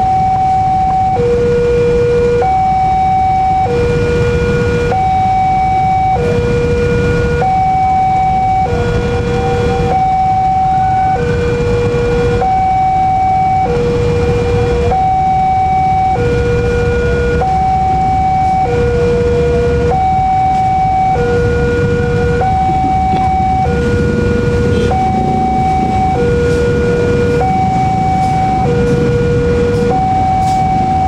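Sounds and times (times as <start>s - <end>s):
level crossing two-tone alarm: 0.0s - 31.0s
low engine rumble: 0.0s - 31.0s.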